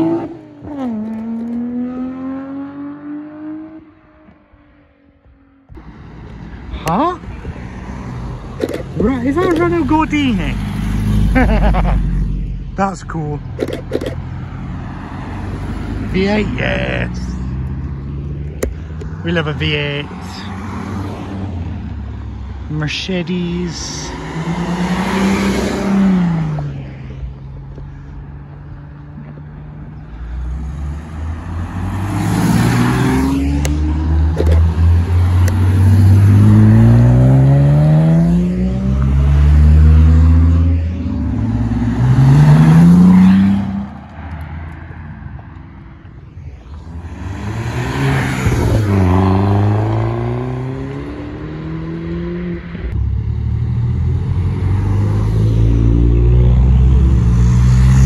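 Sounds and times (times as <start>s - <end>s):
cars driving off: 0.0s - 58.0s.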